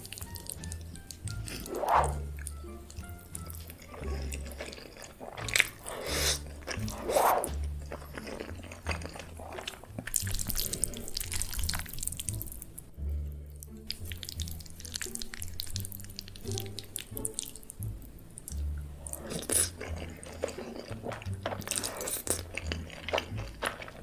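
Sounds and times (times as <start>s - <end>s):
background music with low bass: 0.0s - 24.0s
wet chewing and slurping noodles: 0.0s - 24.0s.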